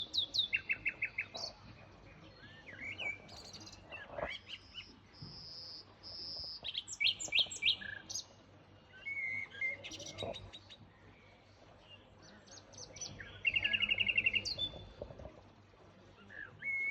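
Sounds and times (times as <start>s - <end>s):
birds chirping and singing: 0.0s - 8.3s, 8.9s - 15.2s.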